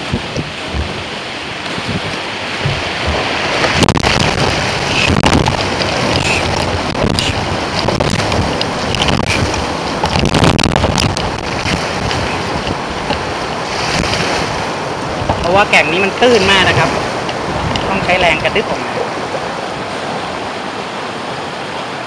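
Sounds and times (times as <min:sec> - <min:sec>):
water rushing and splashing: 0:00.0 - 0:22.0
wind buffeting microphone: 0:00.0 - 0:22.0.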